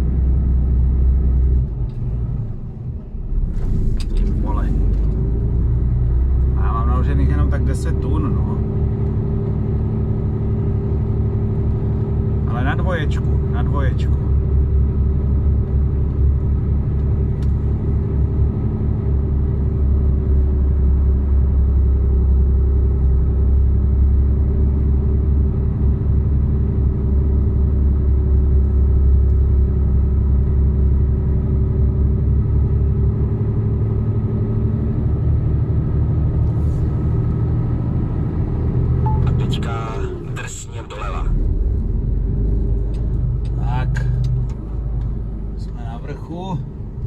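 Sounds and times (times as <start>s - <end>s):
truck diesel engine rumbling: 0.0s - 47.0s.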